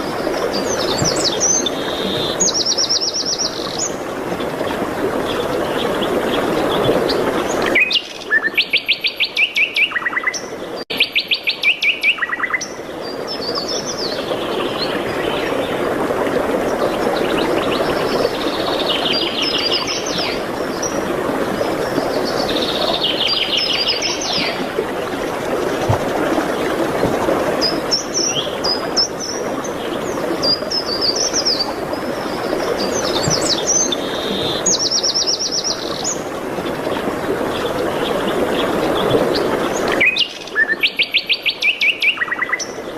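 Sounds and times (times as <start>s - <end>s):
songbirds singing and trilling: 0.3s - 15.9s, 16.6s - 42.9s.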